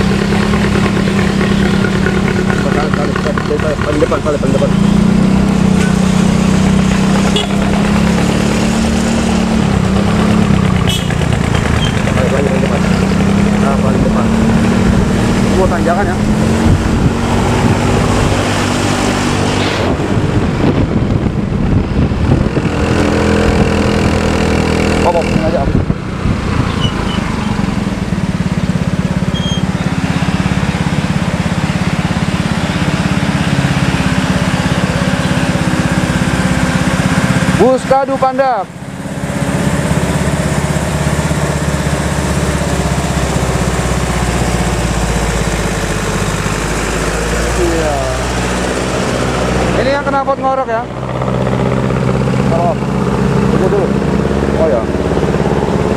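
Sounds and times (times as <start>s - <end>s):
bus engine droning: 0.0s - 55.9s.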